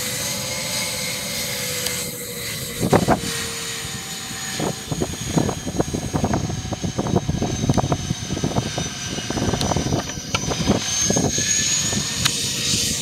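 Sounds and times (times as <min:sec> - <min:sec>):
jet engines roaring with whine: 0:00.0 - 0:13.0.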